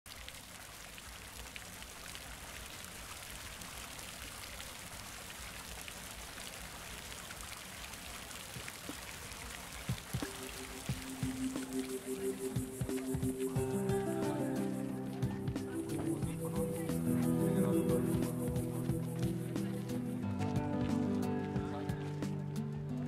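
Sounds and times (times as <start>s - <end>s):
fountain water splashing: 0.1s - 22.6s.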